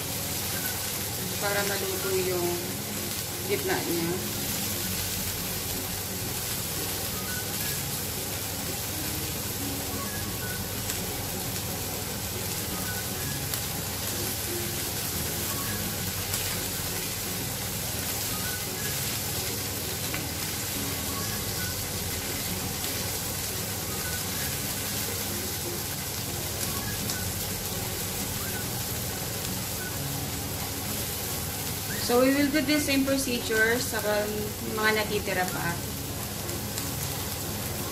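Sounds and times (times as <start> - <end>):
shrimp sizzling in oil: 0.0 - 37.9.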